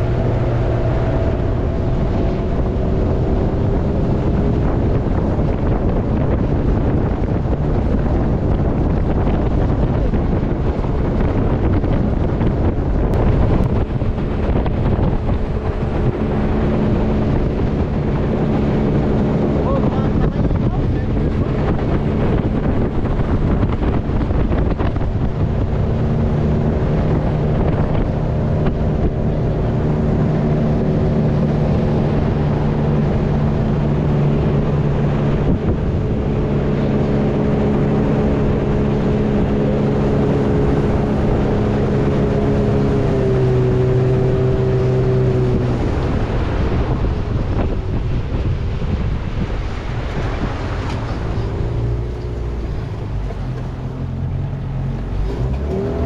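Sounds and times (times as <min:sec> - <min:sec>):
motorboat engine running: 0:00.0 - 0:56.0
rushing noise: 0:00.0 - 0:56.0
wind on microphone: 0:00.0 - 0:56.0.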